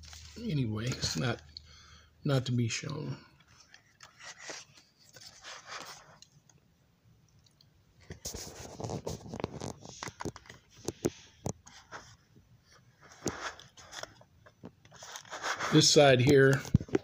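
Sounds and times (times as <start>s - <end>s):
faint plastic rustling: 0.0s - 1.7s, 2.6s - 6.6s, 7.4s - 17.0s.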